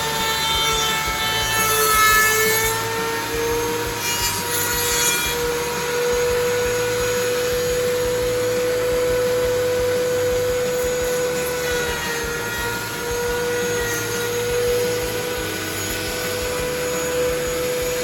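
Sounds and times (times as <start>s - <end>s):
power planer whining: 0.0s - 18.0s.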